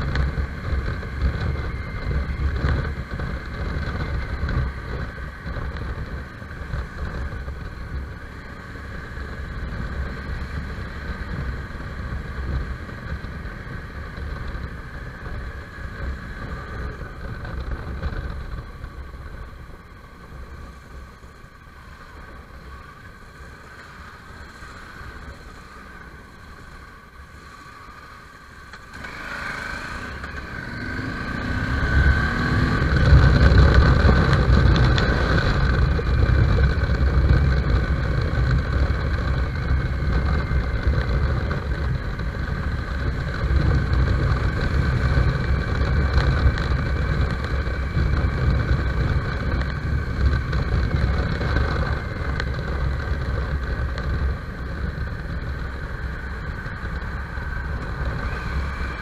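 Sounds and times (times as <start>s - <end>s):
wind rush on microphone: 0.0s - 27.8s, 28.6s - 59.0s
motorcycle engine accelerating: 0.0s - 59.0s.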